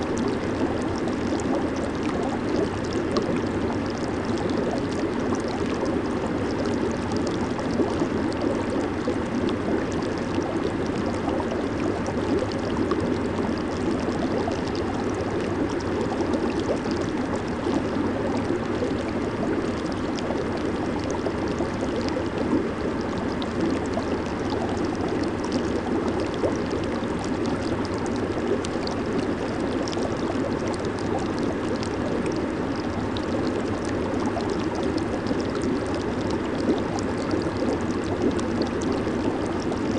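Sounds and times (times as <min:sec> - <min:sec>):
jacuzzi water churning and bubbling: 0:00.0 - 0:39.9.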